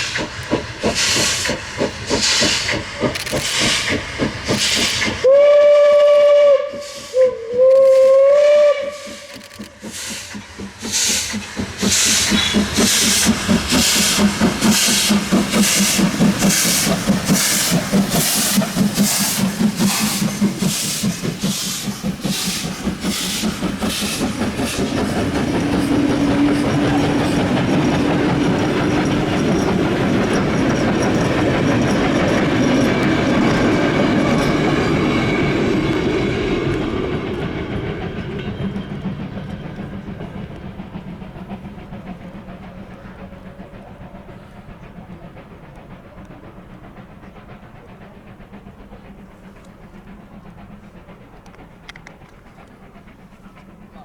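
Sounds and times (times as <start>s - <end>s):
steam train rolling past: 0.0s - 54.0s.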